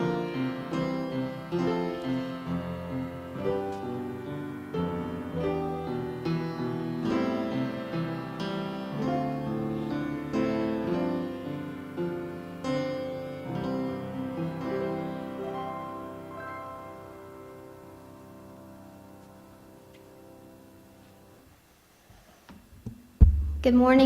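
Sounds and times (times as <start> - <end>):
slow piano chords: 0.0 - 21.5.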